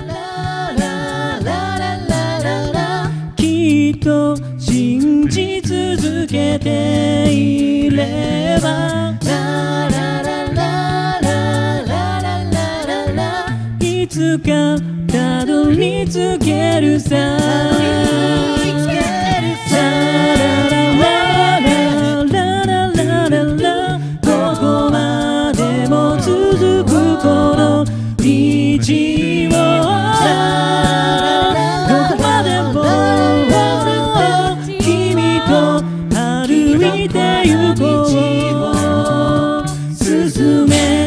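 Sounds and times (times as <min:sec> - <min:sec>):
a cappella group singing: 0:00.0 - 0:41.0.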